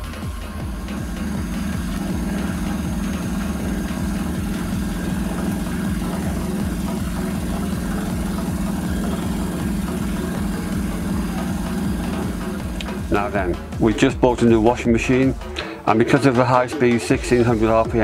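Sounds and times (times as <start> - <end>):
washing machine drum spinning: 0.0 - 15.5.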